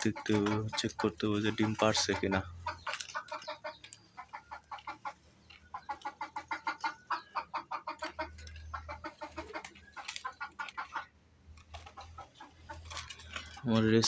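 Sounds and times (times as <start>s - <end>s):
hen clucking: 0.0s - 14.0s.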